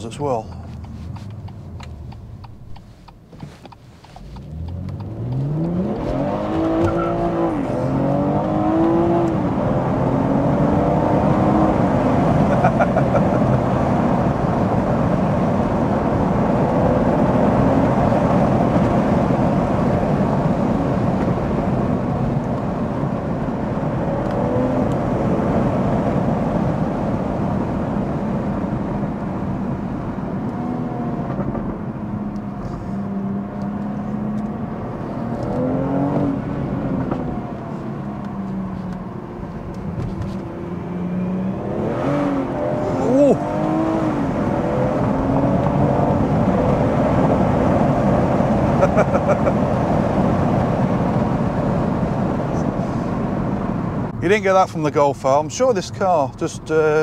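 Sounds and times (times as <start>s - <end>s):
car engine accelerating: 0.0s - 55.7s
road noise: 0.0s - 57.0s.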